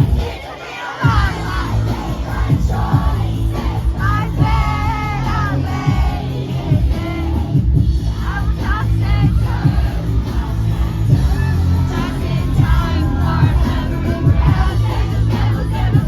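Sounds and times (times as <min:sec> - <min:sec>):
live concert music: 0:00.0 - 0:16.0.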